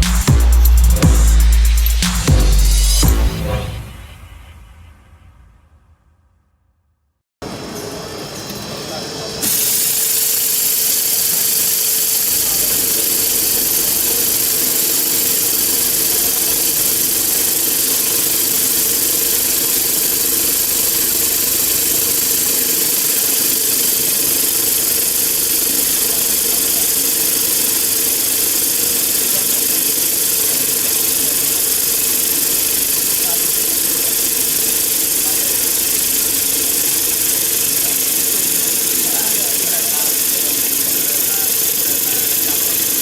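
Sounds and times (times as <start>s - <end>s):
saw cutting steel bar: 7.8s - 43.0s.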